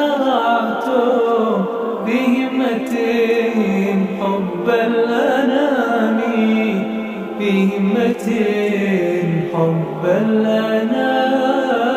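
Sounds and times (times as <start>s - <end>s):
voices singing slow melody: 0.0s - 11.9s.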